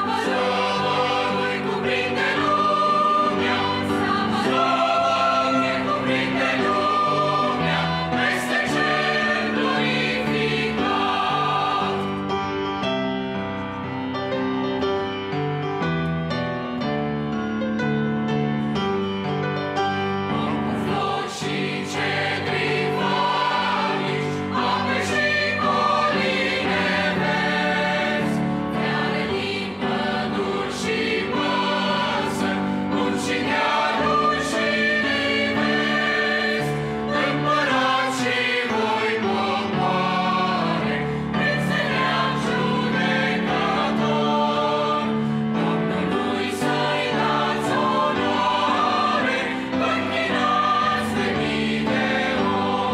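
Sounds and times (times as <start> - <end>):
mixed choir singing a hymn: 0.0 - 13.0, 20.2 - 52.9.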